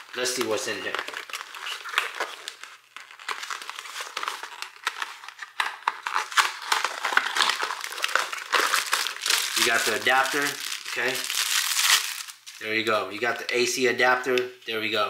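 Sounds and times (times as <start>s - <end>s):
cardboard rustling and crinkling: 0.0s - 12.6s.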